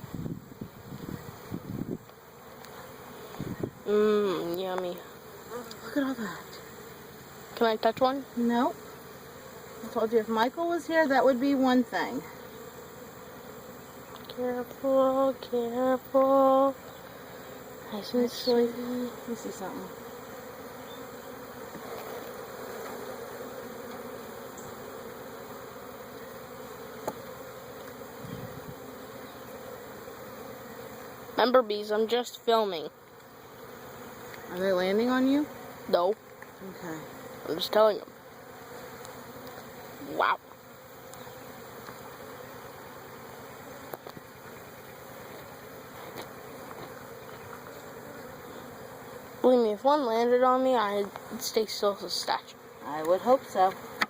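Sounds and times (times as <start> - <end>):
bees buzzing: 0.0 - 54.0.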